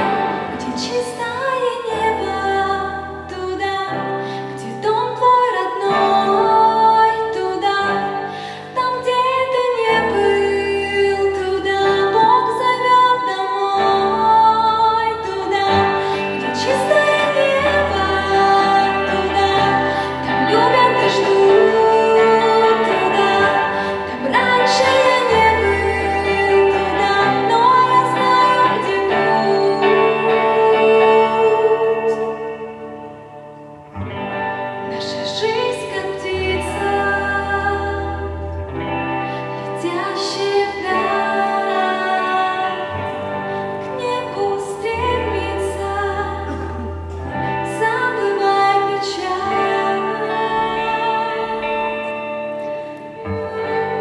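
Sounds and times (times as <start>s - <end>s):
electric guitars: 0.0s - 54.0s
woman singing into a microphone: 0.0s - 54.0s.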